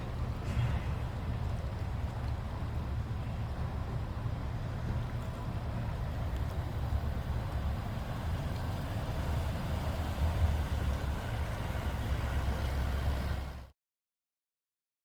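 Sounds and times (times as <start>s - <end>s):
low engine rumble: 0.0s - 13.7s.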